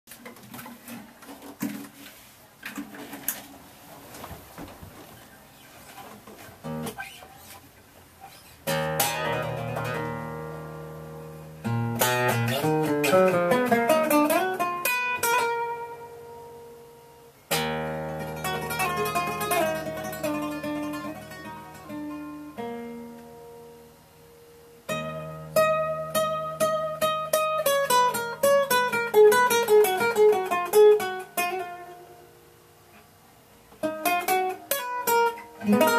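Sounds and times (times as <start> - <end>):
fingerstyle classical guitar: 0.1 - 35.9.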